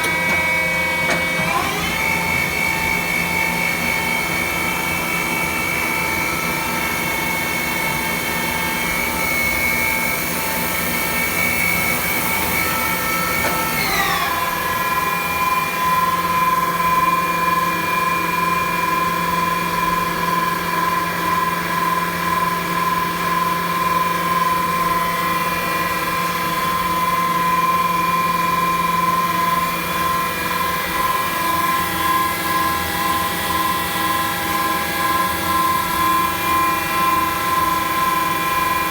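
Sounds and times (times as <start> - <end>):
lathe machine whine: 0.0 - 38.9.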